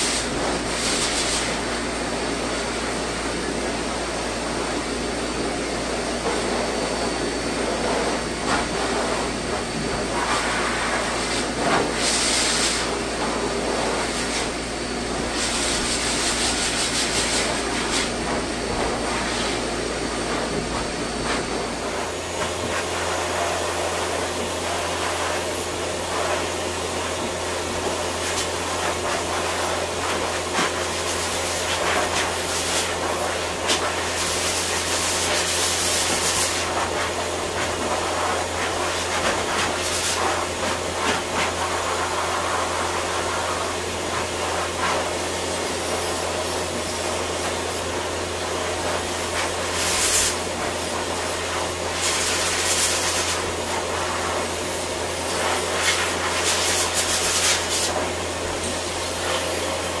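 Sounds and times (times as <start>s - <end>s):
pet dryer blowing: 0.0s - 60.0s.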